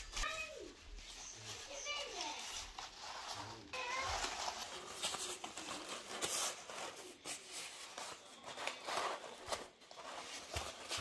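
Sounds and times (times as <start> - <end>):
crepe paper rustling and crinkling: 0.0 - 11.0.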